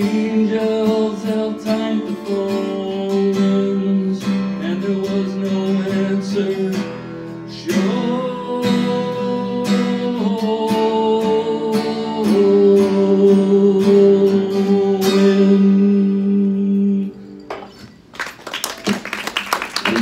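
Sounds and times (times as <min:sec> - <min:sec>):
acoustic guitar strumming: 0:00.0 - 0:18.1.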